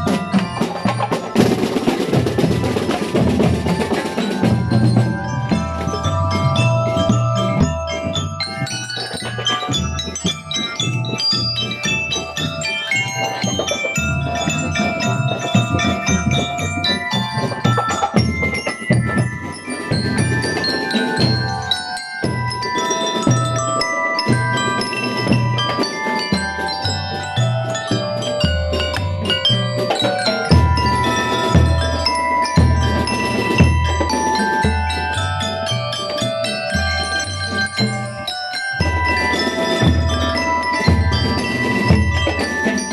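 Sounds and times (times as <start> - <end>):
bell lyres ringing melody: 0.0 - 42.9.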